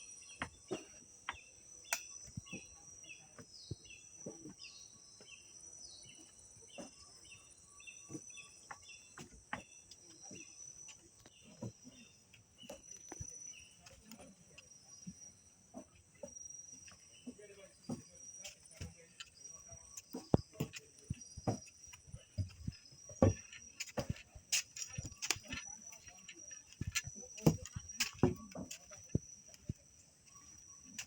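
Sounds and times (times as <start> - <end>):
bird chirps: 0.0 - 31.0.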